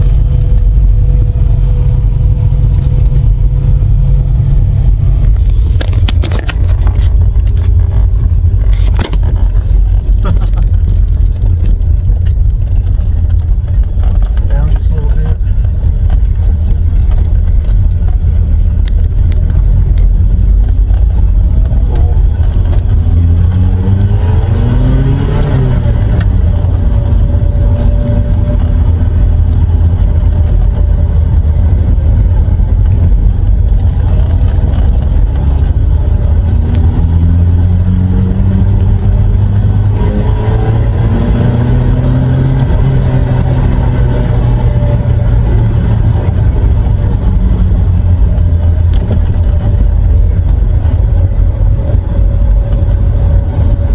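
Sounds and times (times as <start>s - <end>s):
car engine rumbling: 0.0s - 53.9s.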